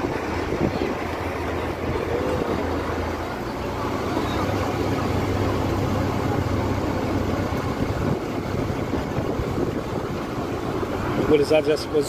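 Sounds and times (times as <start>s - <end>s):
boat engine humming: 0.0s - 12.0s
rushing water: 0.0s - 12.0s
wind: 0.0s - 12.0s.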